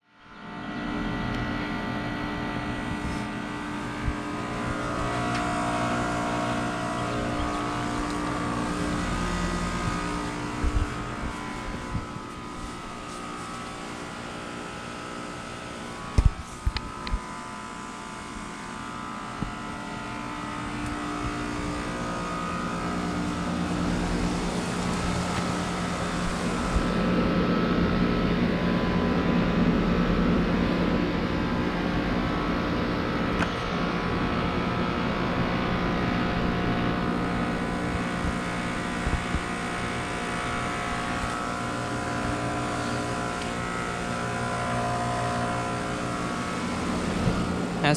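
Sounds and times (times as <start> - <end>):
heat pump humming: 0.2 - 47.9.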